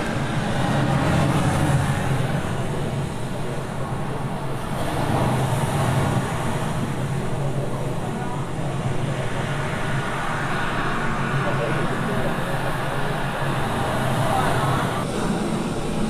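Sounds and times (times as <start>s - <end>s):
ocean waves washing onto beach: 0.0s - 16.0s.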